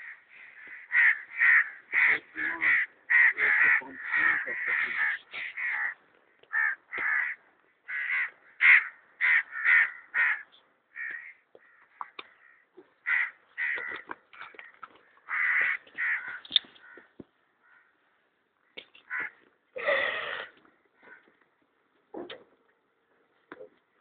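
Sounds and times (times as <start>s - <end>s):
birds making harsh calls: 0.0s - 17.9s, 18.7s - 21.3s.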